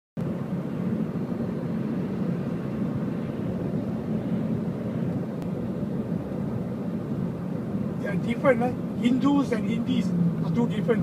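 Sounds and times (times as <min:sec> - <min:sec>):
vehicle road and engine rumble: 0:00.2 - 0:11.0.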